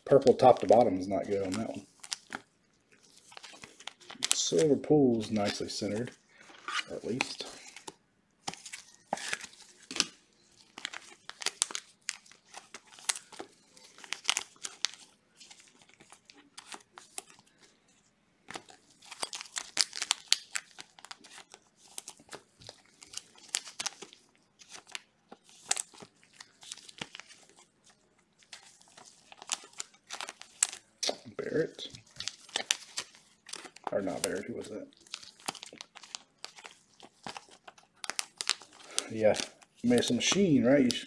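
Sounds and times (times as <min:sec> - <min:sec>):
plastic card sleeves crinkling: 0:00.0 - 0:41.0.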